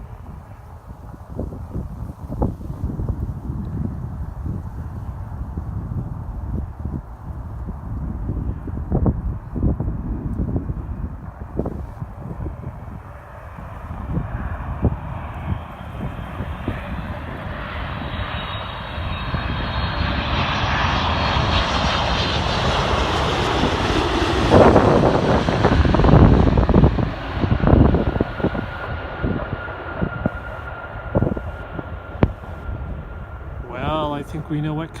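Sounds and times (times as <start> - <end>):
jet engine whine: 0.0 - 35.0
jet plane passing low rumble: 0.0 - 35.0.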